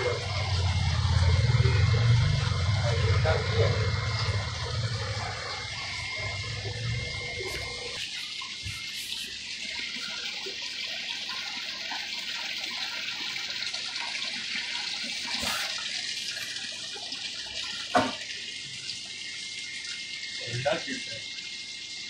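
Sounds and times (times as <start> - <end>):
aquarium water trickling: 0.0 - 22.0.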